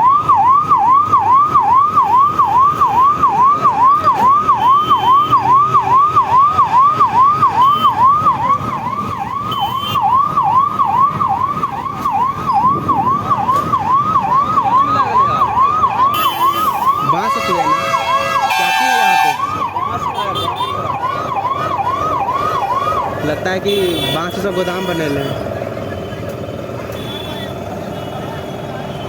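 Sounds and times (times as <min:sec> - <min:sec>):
siren yelping: 0:00.0 - 0:26.0
road traffic rumble: 0:00.0 - 0:29.0.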